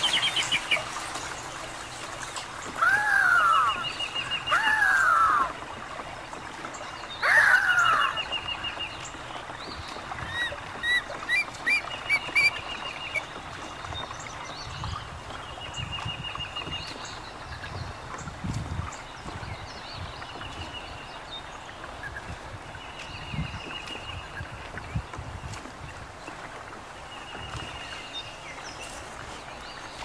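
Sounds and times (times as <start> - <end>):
birds calling and chirping: 0.0 - 30.0
wind buffeting microphone: 0.0 - 30.0.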